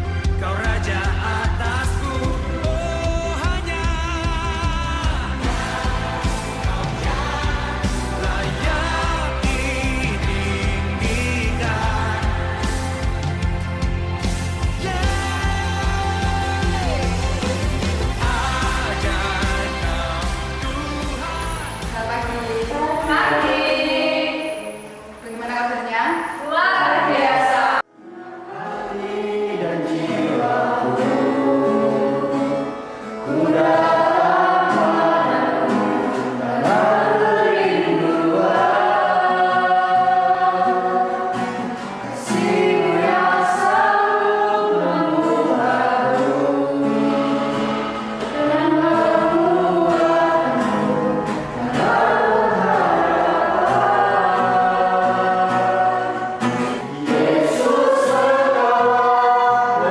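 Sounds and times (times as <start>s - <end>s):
group singing worship song: 0.0s - 59.9s.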